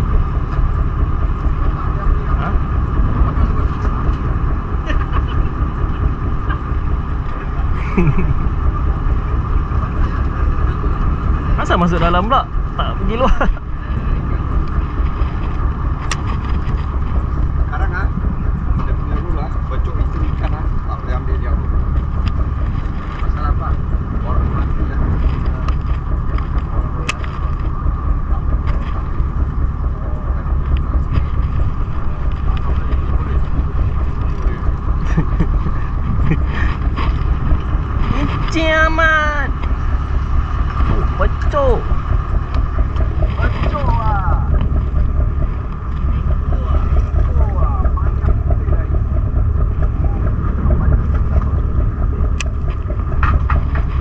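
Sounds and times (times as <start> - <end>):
boat engine rumbling: 0.0 - 54.0
faint engine whine: 0.0 - 54.0.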